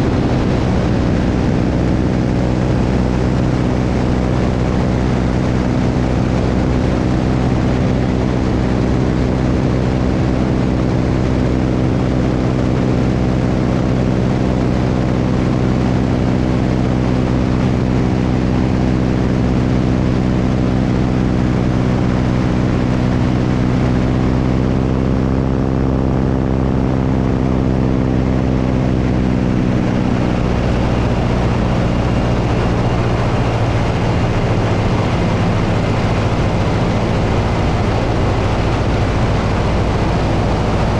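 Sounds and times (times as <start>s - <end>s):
constant rush of noise: 0.0s - 40.9s
propeller airplane engine: 0.0s - 40.9s.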